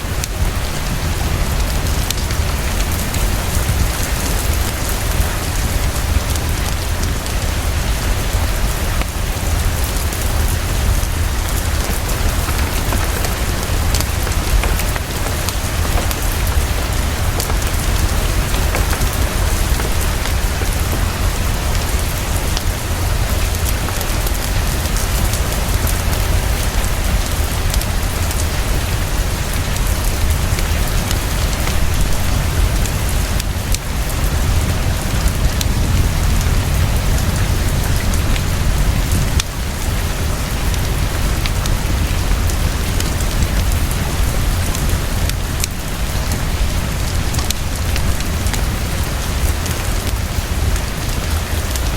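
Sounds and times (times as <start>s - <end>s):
heavy rainfall: 0.0s - 51.9s
log fire crackling: 0.0s - 51.9s.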